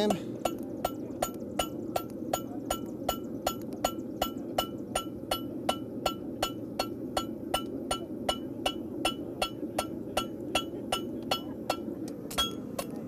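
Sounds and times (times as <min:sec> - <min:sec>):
steady low hum: 0:00.0 - 0:13.0
hammer striking horseshoe on anvil: 0:00.4 - 0:12.9.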